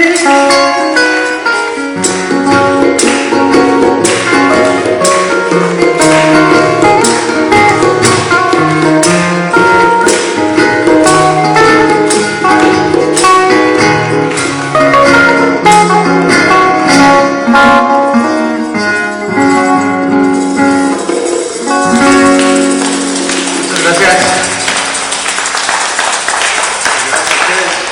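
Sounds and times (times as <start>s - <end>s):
acoustic guitar music: 0.0s - 27.3s.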